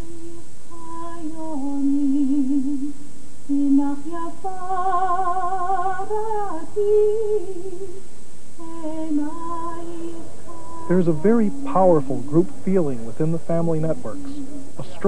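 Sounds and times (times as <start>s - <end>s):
woman singing wordless melody: 0.0s - 15.0s.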